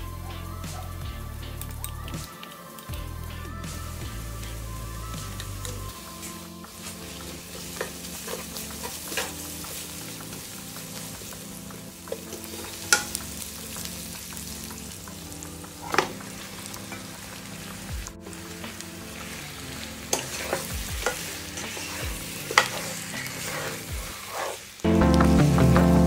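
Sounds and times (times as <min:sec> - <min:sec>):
onions sizzling in a wok: 0:00.0 - 0:25.6.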